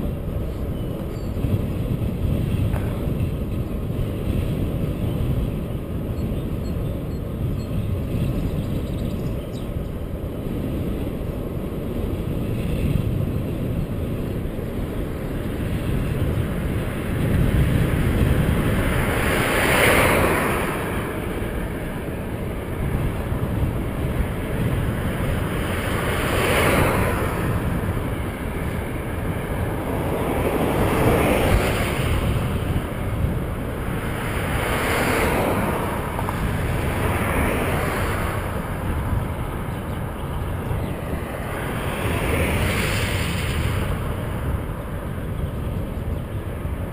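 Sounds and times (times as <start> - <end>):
cars passing on highway: 0.0 - 46.9
wind rumbling on microphone: 0.0 - 46.9.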